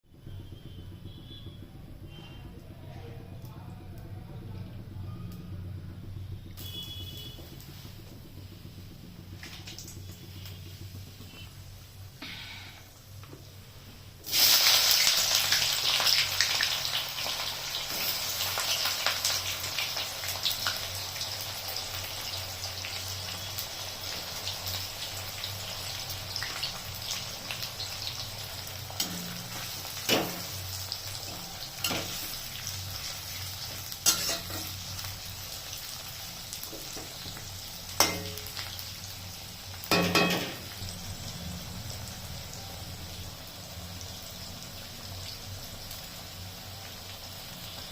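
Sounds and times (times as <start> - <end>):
food frying in hot oil: 0.1 - 47.9.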